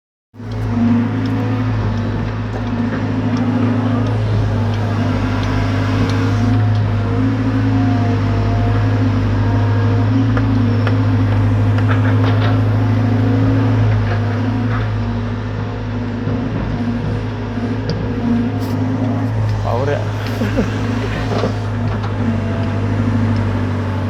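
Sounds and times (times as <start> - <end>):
excavator diesel engine running: 0.4 - 24.0.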